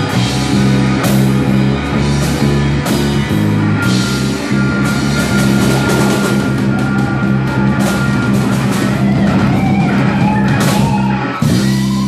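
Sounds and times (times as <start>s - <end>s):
bass guitar: 0.0s - 12.0s
distorted electric guitar: 0.0s - 12.0s
drum kit: 0.0s - 12.0s.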